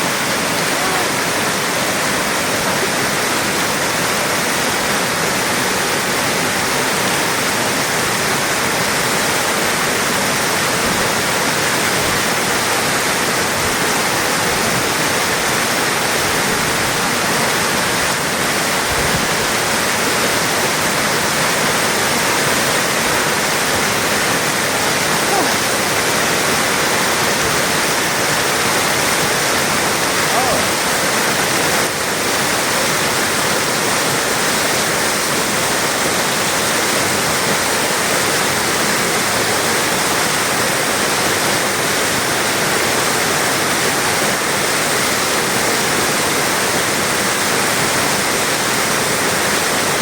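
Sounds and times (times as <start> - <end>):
waterfall rushing and splashing: 0.0 - 50.0.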